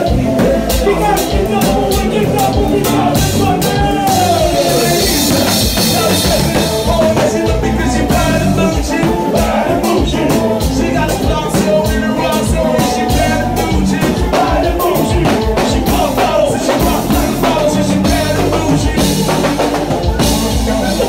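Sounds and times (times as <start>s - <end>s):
band music with singing: 0.0s - 21.0s
drum kit beat: 0.0s - 21.0s.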